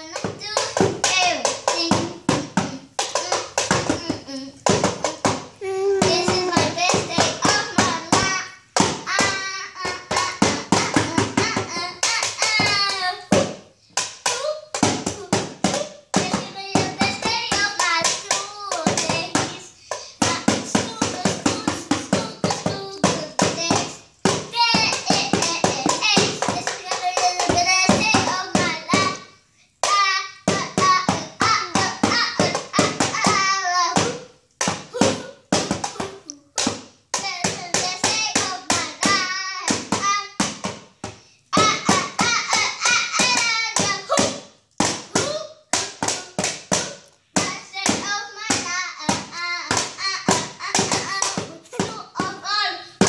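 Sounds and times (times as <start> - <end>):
boy singing: 0.0 - 40.7, 41.5 - 53.0
hand taps keeping beat: 0.0 - 52.7.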